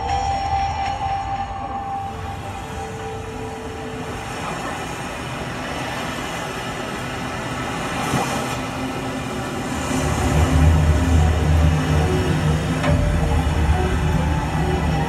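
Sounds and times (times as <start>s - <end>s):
low rumbling drone music: 0.0s - 15.0s.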